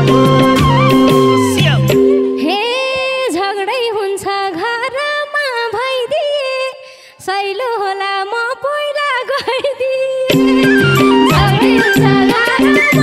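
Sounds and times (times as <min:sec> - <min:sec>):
woman singing unaccompanied: 0:02.4 - 0:13.0.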